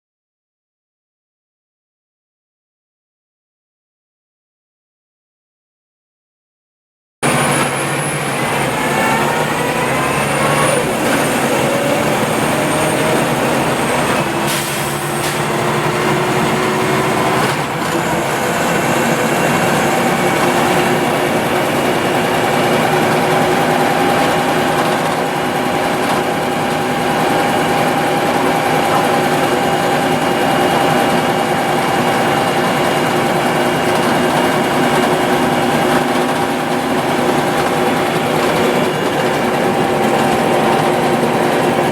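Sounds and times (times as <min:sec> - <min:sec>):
bus engine whine: 0:07.2 - 0:41.9.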